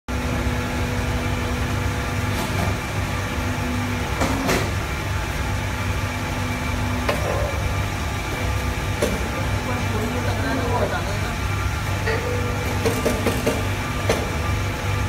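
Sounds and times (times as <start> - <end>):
hydraulic power unit humming: 0.1 - 15.0.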